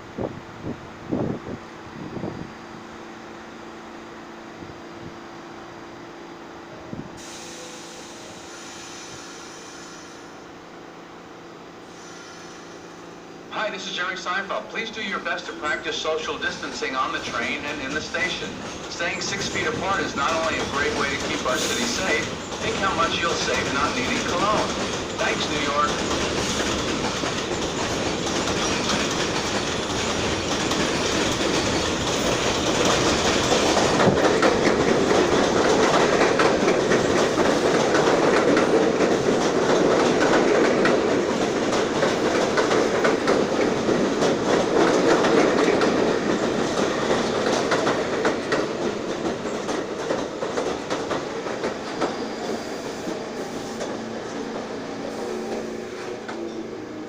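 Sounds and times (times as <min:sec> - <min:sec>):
subway train wheels clattering: 0:06.6 - 0:57.0.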